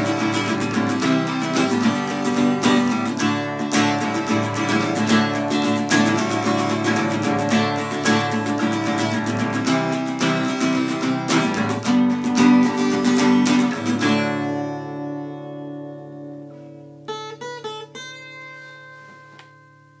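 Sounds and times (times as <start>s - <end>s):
guitar strummed fast: 0.0s - 19.2s
plucked guitar notes: 0.0s - 20.0s.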